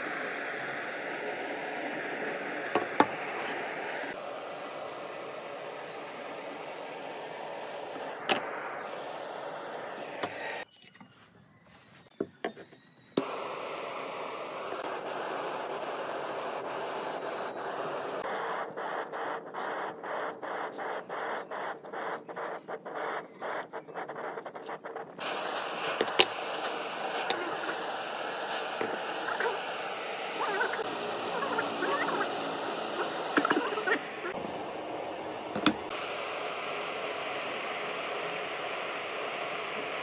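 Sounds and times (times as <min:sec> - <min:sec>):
butane torch hissing: 0:00.0 - 0:10.7, 0:13.1 - 0:40.0.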